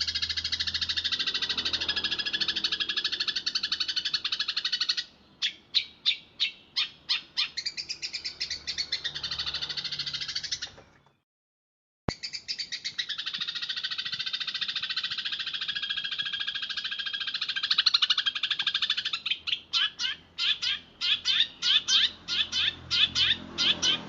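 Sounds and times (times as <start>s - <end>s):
sparrows chirping: 0.0s - 11.2s, 12.1s - 24.0s.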